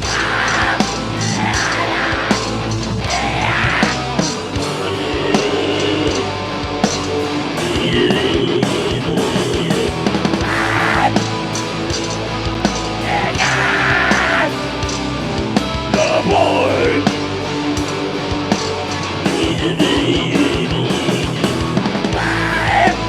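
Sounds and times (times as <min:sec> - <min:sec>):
distorted electric guitars: 0:00.0 - 0:23.0
heavy metal band playing: 0:00.0 - 0:23.0.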